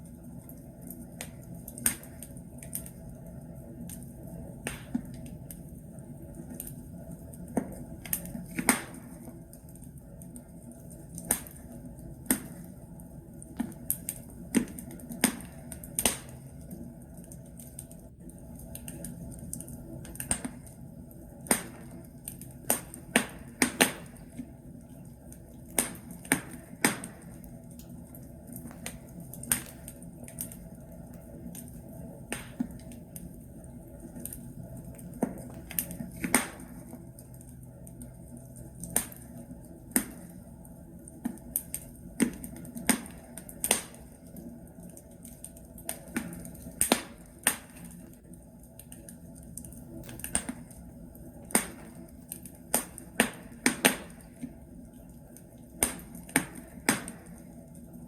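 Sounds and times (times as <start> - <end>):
wood logs crackling in fireplace: 0.0 - 58.0.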